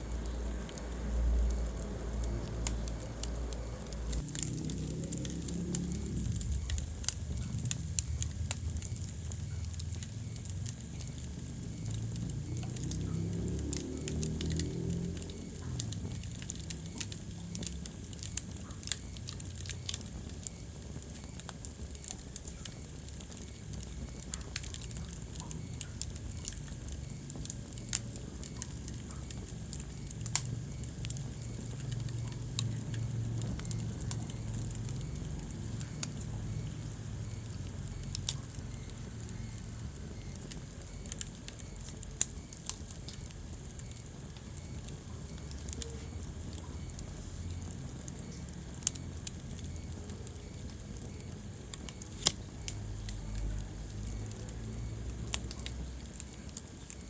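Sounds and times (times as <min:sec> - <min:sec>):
fire pops and snaps: 0:00.0 - 0:57.0
low rumble of flames: 0:00.0 - 0:57.0.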